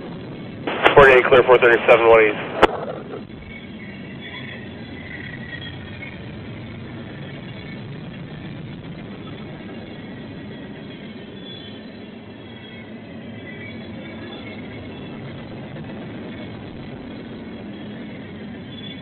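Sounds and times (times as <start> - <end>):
train running by: 0.0 - 19.0.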